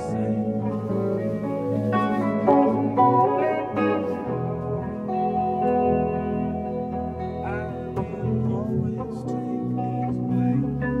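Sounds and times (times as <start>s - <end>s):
electric guitars: 0.0s - 11.0s
electric keyboard: 0.0s - 11.0s.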